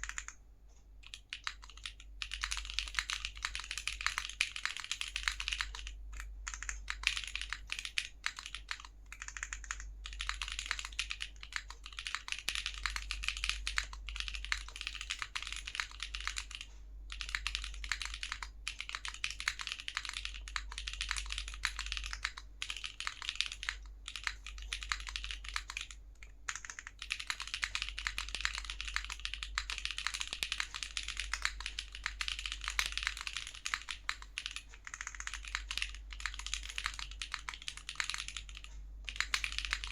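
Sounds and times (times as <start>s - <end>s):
fast typing on mechanical keyboard: 0.0s - 0.4s, 1.0s - 39.9s.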